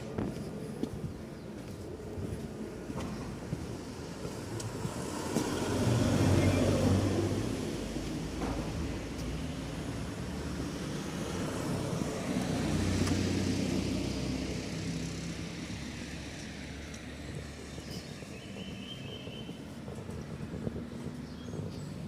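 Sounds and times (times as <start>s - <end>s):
passing vehicle engine: 1.8s - 22.0s.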